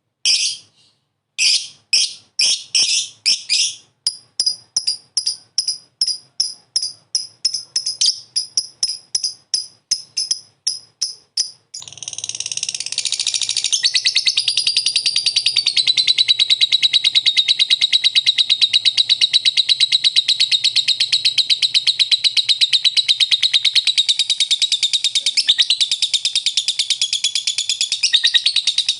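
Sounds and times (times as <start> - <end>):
lovebird chirping and trilling: 0.2 - 28.9.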